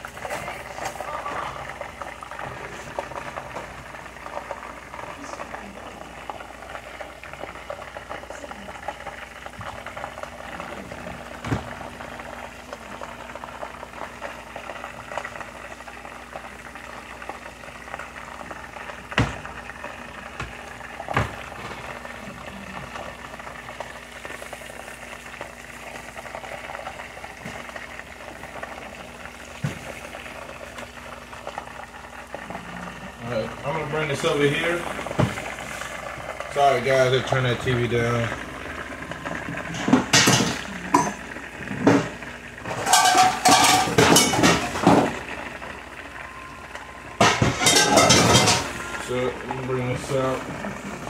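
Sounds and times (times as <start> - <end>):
chicken deep-frying in oil: 0.0 - 51.0.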